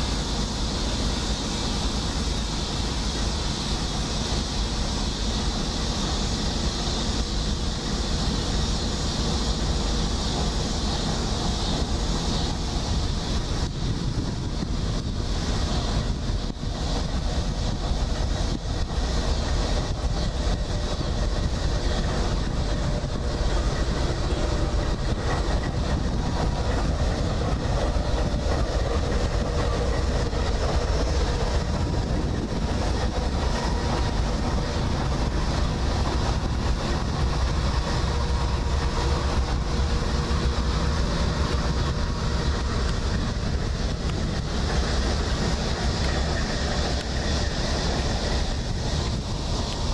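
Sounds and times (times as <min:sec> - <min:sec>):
diesel locomotives running: 0:00.0 - 0:49.9
steel wheels rolling on rails: 0:00.0 - 0:49.9.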